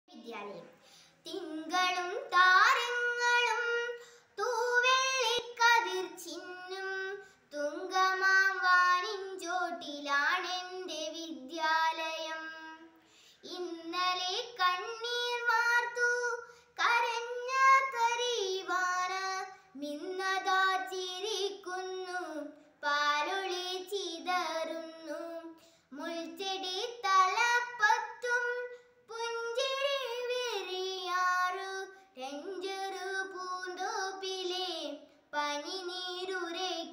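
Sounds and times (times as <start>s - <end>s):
girl singing unaccompanied: 0.1s - 36.9s.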